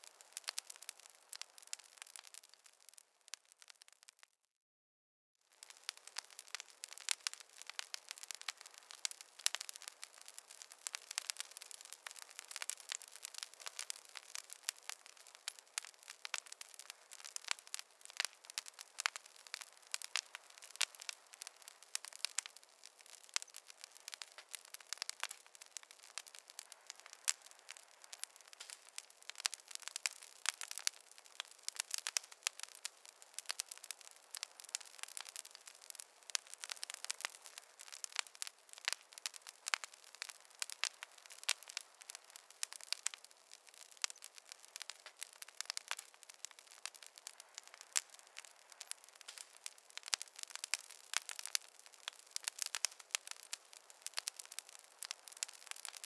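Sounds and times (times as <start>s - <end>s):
faint fire hiss: 0.0s - 3.9s, 5.5s - 56.0s
campfire crackling: 0.0s - 4.3s, 5.5s - 56.0s.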